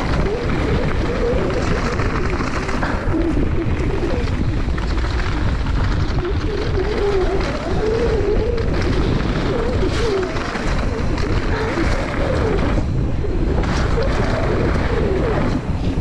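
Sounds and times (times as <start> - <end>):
bike rattling over bumps: 0.0 - 16.0
tyres on dirt: 0.0 - 16.0
wind on microphone: 0.0 - 16.0.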